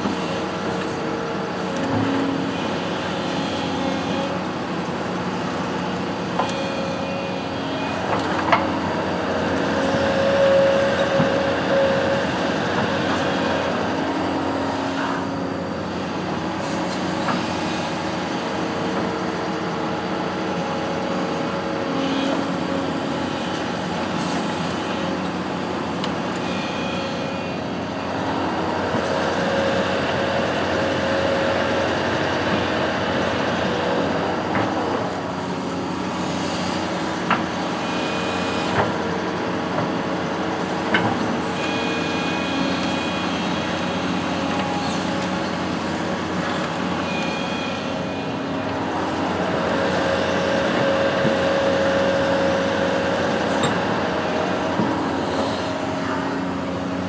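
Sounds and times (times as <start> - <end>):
construction machine engine running: 0.0 - 57.0.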